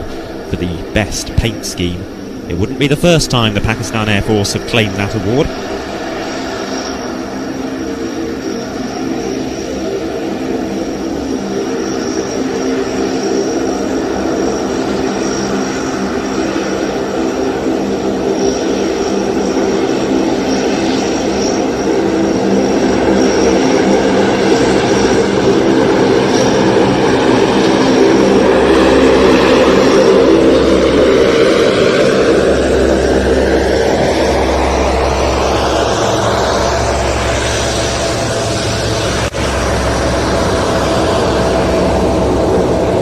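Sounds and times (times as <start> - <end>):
high engine whine: 0.0 - 43.0
propeller aircraft drone: 0.0 - 43.0.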